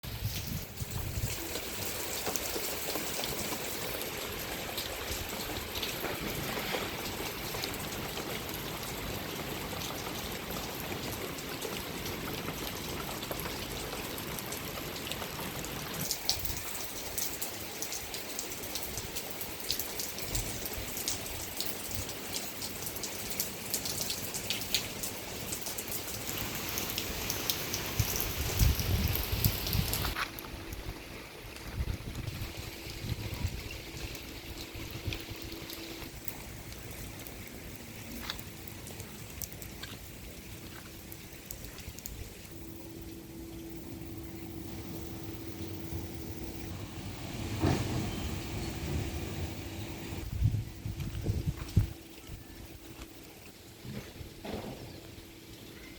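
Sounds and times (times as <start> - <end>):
rain patter: 0.0 - 55.9.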